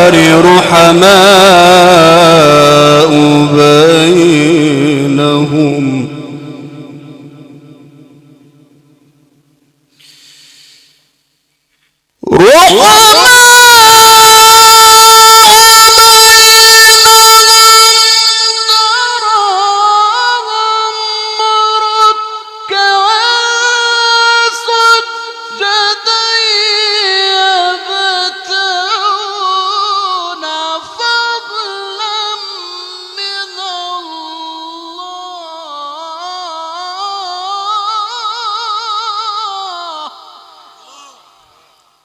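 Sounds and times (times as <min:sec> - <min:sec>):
man reciting in melisma: 0:00.0 - 0:08.6, 0:12.2 - 0:41.8.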